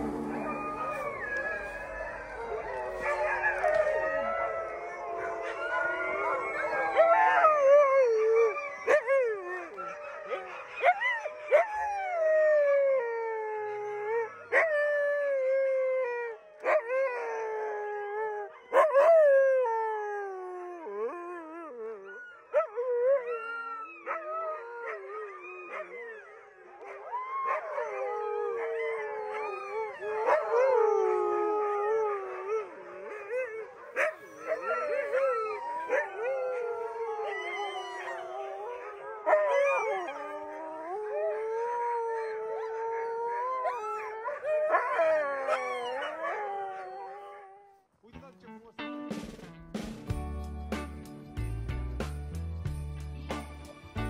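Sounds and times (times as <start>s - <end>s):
dogs howling: 0.0s - 47.7s.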